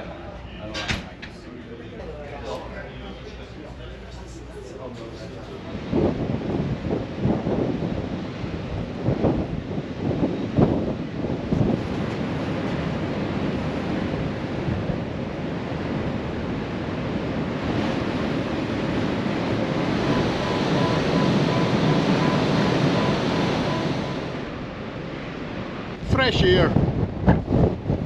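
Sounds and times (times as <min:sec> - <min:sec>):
rush of the sea: 0:04.8 - 0:28.0
wind buffeting microphone: 0:05.5 - 0:28.0.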